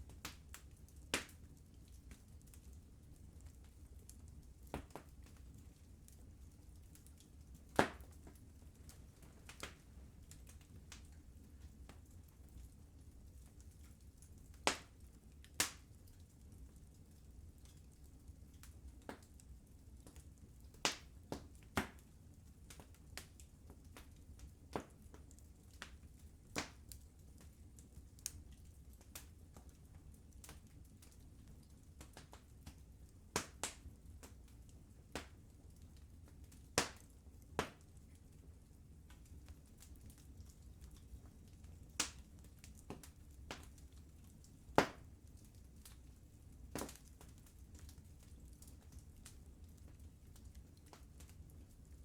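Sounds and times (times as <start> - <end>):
fire crackling and popping: 0.0 - 52.0
low rumble of flames: 0.0 - 52.0.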